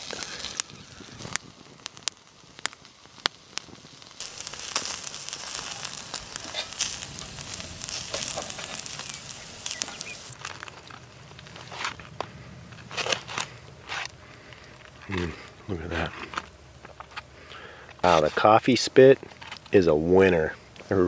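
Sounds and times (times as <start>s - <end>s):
meat sizzling over coals: 0.0s - 21.0s
wood fire crackling and popping: 0.0s - 21.0s.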